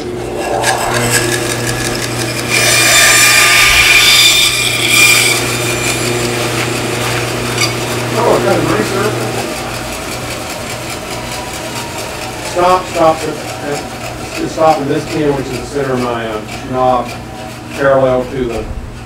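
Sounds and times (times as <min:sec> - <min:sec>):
bandsaw blade cutting wood: 0:00.0 - 0:11.4, 0:12.2 - 0:18.6
bandsaw motor hum: 0:00.0 - 0:19.0.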